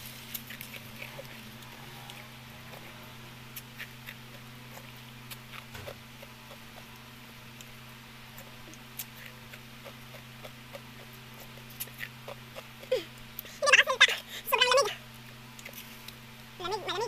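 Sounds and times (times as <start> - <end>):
quiet eating sounds: 0.0 - 17.0
steady low hum: 0.0 - 17.0.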